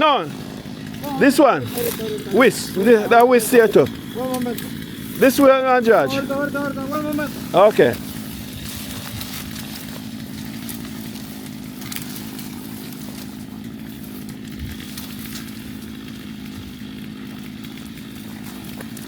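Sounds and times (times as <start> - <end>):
two-stroke chainsaw engine running: 0.0 - 19.0.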